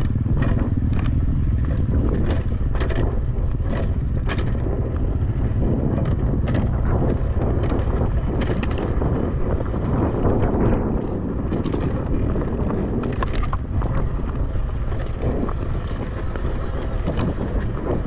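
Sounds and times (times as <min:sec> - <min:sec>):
dirt bike engine running: 0:00.0 - 0:18.0
knocks and clatter from bike: 0:00.0 - 0:18.0
wind on microphone: 0:00.0 - 0:18.0.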